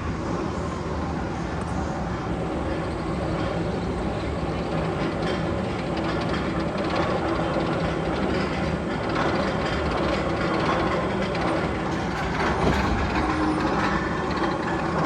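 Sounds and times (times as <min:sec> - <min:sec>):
roller coaster rumbling clatter: 0:00.0 - 0:15.0.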